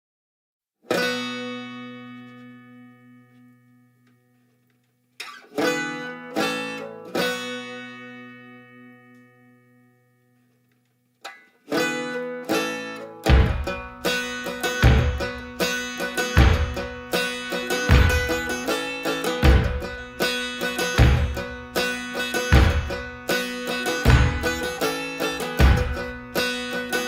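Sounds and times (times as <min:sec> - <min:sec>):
strummed string instrument chords: 0:00.9 - 0:04.2, 0:05.2 - 0:10.1, 0:11.2 - 0:27.0.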